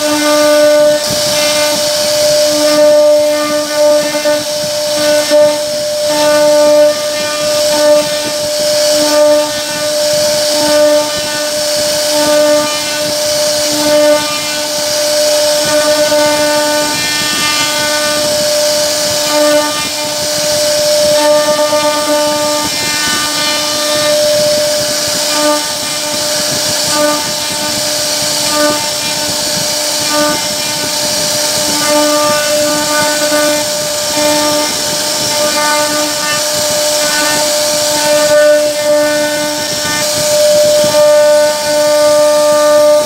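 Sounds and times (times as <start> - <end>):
bit cutting wood hiss: 0.0 - 43.0
router spindle whine: 0.0 - 43.0.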